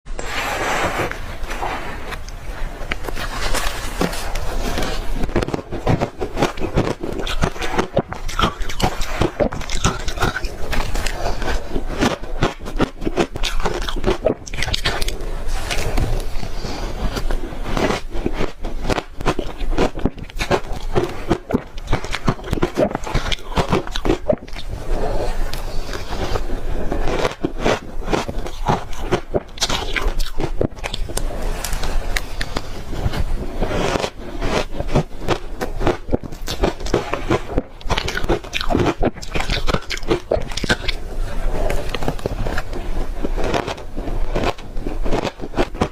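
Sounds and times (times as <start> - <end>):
ice being chewed: 1.5 - 45.9.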